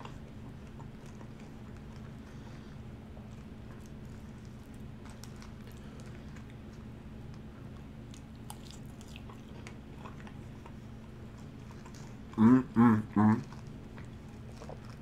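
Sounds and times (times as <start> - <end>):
chewing and wet smacking: 0.0 - 15.0
steady low hum: 0.0 - 15.0.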